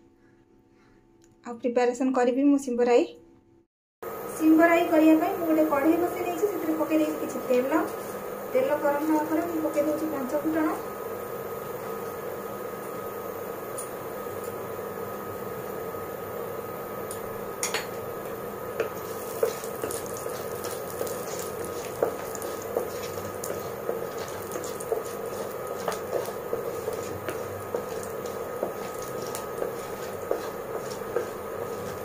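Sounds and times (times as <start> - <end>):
seeds sizzling in hot oil: 4.0 - 32.0
steady hum: 4.0 - 32.0.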